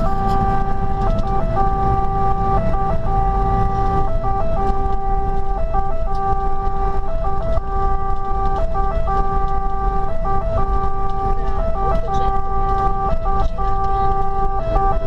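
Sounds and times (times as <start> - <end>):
fire engine siren: 0.0 - 15.0
truck engine and road rumble: 0.0 - 15.0.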